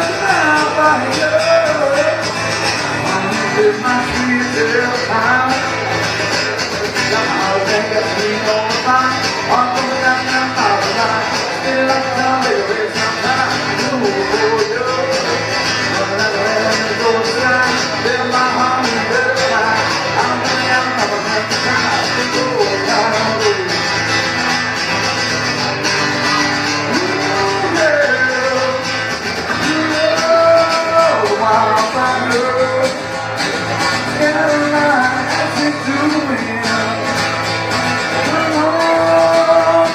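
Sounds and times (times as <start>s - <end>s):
country song: 0.0s - 39.9s
strummed acoustic guitar: 0.0s - 39.9s.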